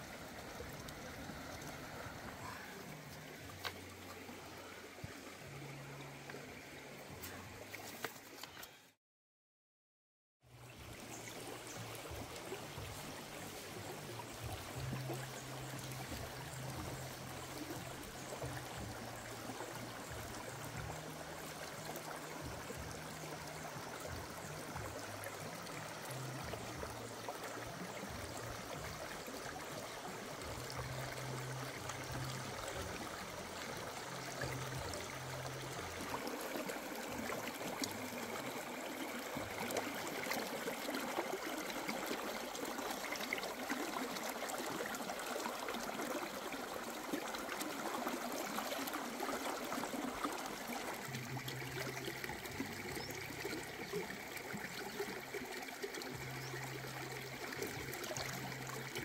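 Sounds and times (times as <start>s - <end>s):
stream trickling over rocks: 0.0s - 9.0s, 10.5s - 59.0s.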